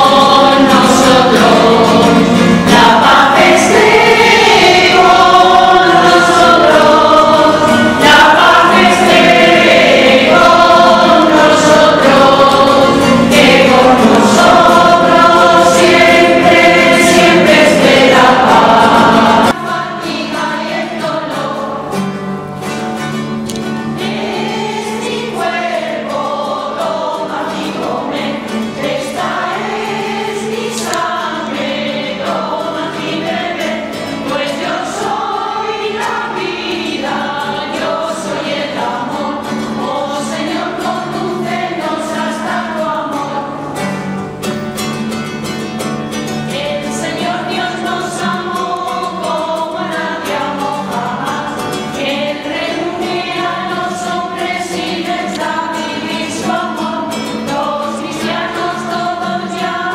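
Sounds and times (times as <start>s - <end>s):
acoustic guitar: 0.0s - 59.9s
choir singing: 0.0s - 59.9s.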